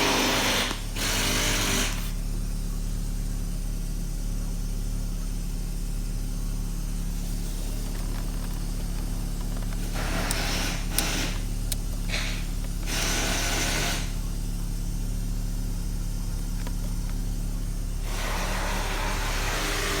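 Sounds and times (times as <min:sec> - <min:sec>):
petrol engine idling: 0:00.0 - 0:20.0.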